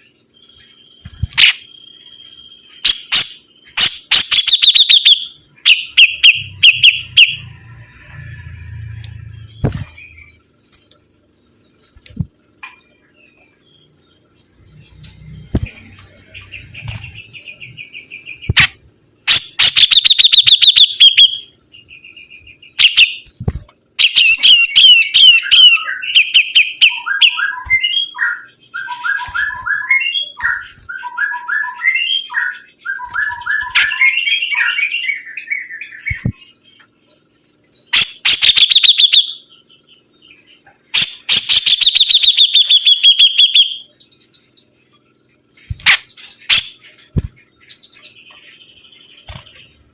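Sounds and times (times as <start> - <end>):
songbird singing trills and whistles: 0.0 - 23.3, 24.0 - 49.9.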